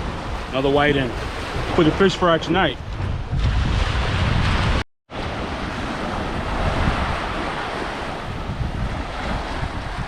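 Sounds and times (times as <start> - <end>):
surf washing onto beach: 0.0 - 10.0
wind noise on microphone: 0.0 - 10.0.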